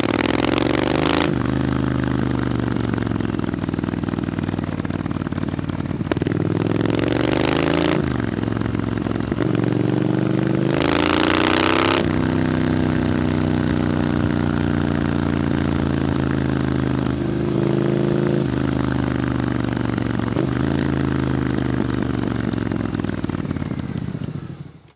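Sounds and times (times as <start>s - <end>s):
motorcycle engine shifting gears: 0.0s - 24.9s.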